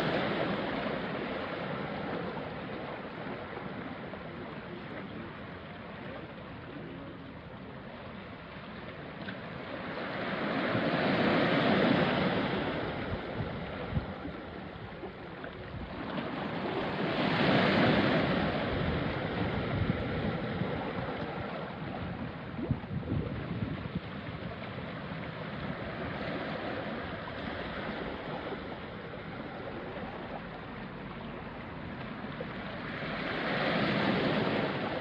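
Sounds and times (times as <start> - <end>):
sea waves breaking on rocks: 0.0 - 35.0.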